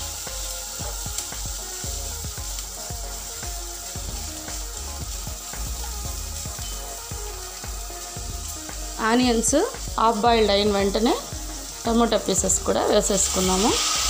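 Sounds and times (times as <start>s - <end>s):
background music: 0.0s - 14.0s
onions sizzling in a pan: 0.0s - 14.0s.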